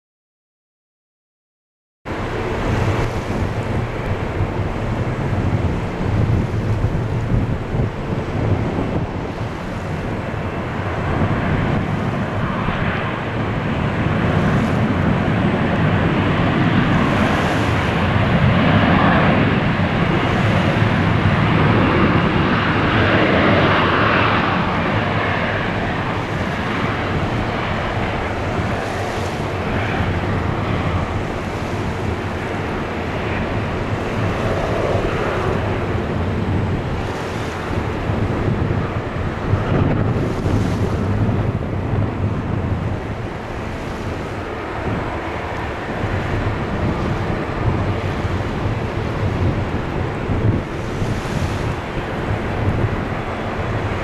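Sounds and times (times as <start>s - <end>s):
jet engines rumbling: 2.1s - 54.0s.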